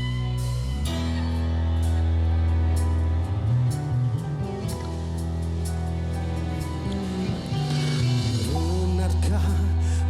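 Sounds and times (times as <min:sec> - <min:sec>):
live band playing slow pop: 0:00.0 - 0:10.0.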